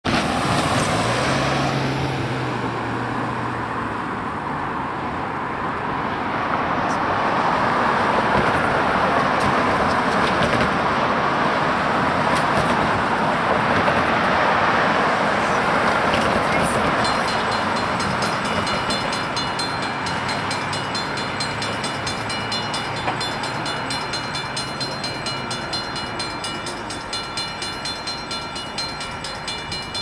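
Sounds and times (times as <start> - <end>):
freight train rumbling: 0.0 - 30.0
road traffic noise: 0.0 - 30.0.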